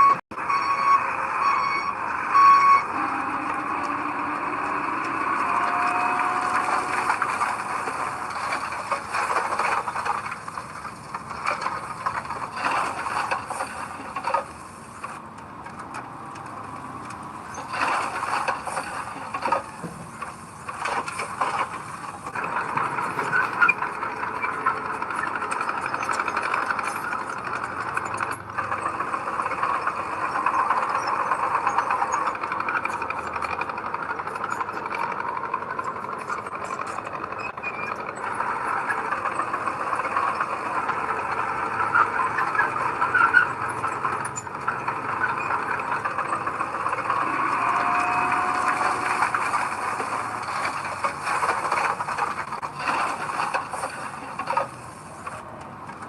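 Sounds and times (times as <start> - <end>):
heavy diesel machinery running: 0.0 - 56.0
rattling and clanking: 2.8 - 56.0.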